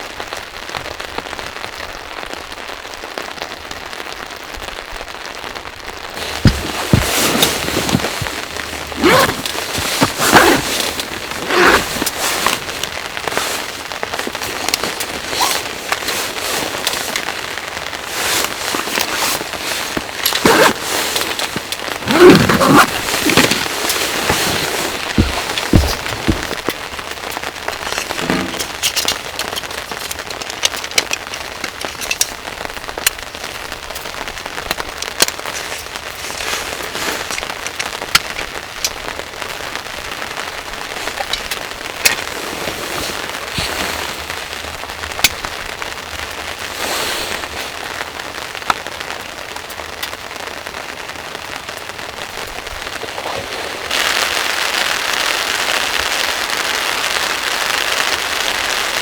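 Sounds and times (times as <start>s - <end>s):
raindrops tapping a surface: 0.0s - 59.0s
steady rain: 0.0s - 59.0s.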